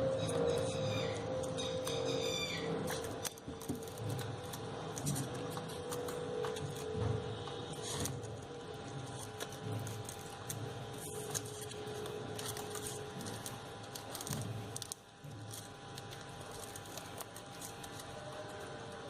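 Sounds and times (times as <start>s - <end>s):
paper and tape rustling: 2.8s - 19.0s.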